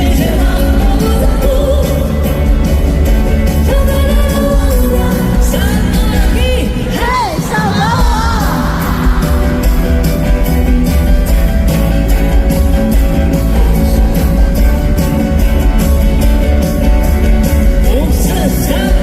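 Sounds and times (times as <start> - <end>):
drums: 0.0 - 19.0
guitar: 0.0 - 19.0
heavy bass: 0.0 - 19.0.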